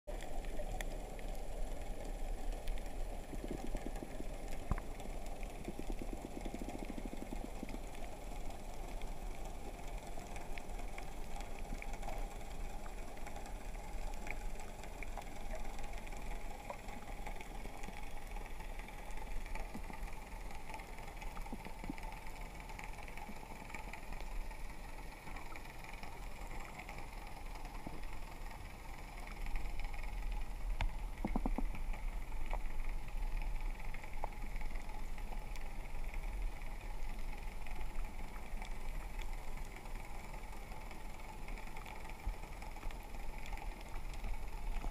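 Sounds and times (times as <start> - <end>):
faint ticks and clicks: 0.1 - 44.9
underwater rumble and hiss: 0.1 - 44.9.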